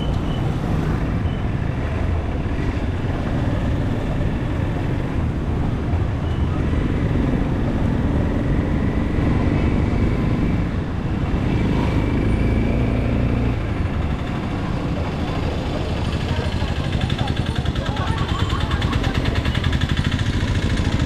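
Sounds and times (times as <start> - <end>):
motorcycle engine running: 0.0 - 21.0
road and wind rumble: 0.0 - 21.0.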